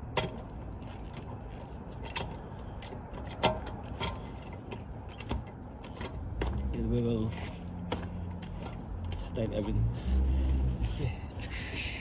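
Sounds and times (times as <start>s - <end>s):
lug nuts clinking on wheel studs: 0.0s - 9.8s.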